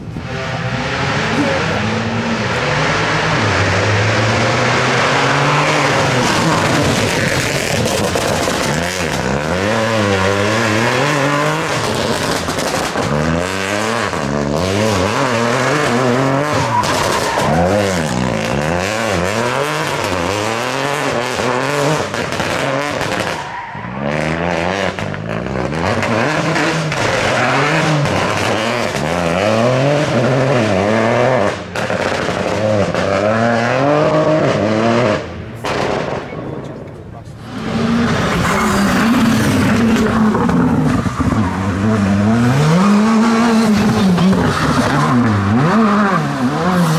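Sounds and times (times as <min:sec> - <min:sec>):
car engine revving hard: 0:00.2 - 0:23.4, 0:24.0 - 0:36.0, 0:37.4 - 0:46.9.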